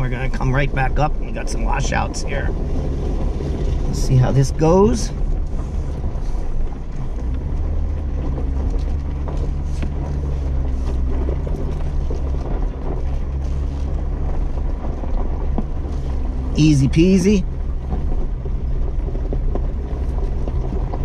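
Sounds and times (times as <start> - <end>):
engine running at low speed: 0.0 - 21.0.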